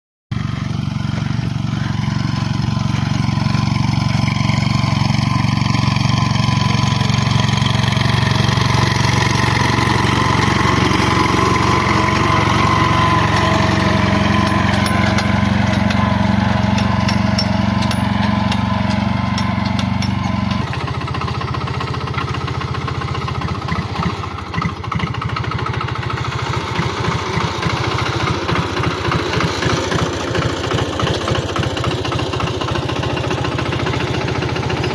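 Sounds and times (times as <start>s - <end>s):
tractor engine running: 0.3s - 34.9s.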